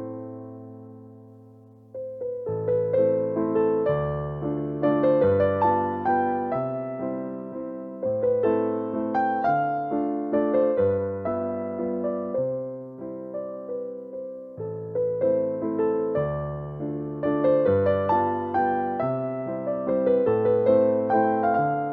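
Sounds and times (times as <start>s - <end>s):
gentle solo piano piece: 0.0s - 21.9s.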